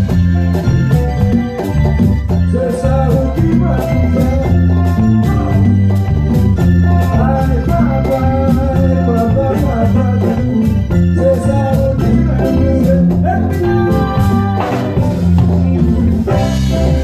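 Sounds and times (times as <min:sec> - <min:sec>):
bass line: 0:00.0 - 0:17.0
organ-like keyboard chords: 0:00.0 - 0:17.0.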